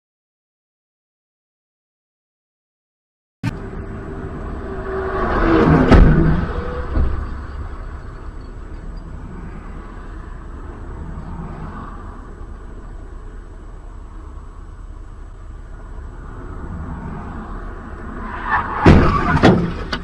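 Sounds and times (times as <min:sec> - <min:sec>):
motor vehicle rumbling: 0:03.4 - 0:20.0.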